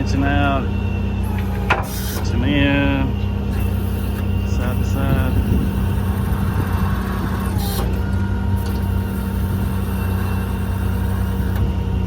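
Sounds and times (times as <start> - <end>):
diesel engine running: 0.0 - 12.0
hydraulic pump: 0.0 - 12.0.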